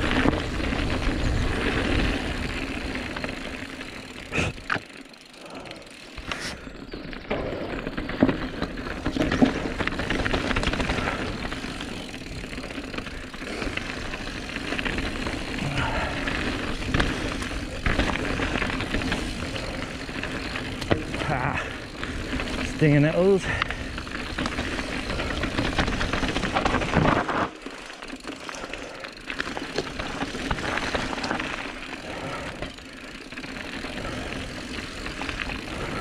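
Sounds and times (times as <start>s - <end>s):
bike knocking and rattling: 0.0s - 36.0s.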